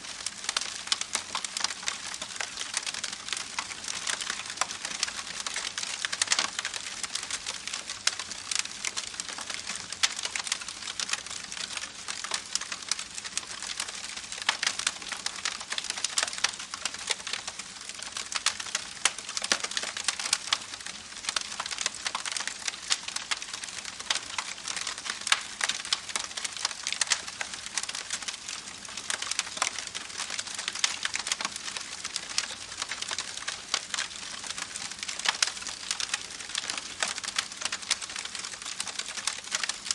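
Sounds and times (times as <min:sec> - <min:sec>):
campfire crackling and popping: 0:00.2 - 0:39.9.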